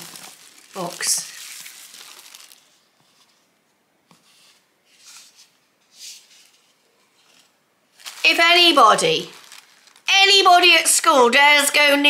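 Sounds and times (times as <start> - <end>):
tissue paper rustling: 0.0 - 3.5, 4.2 - 11.9.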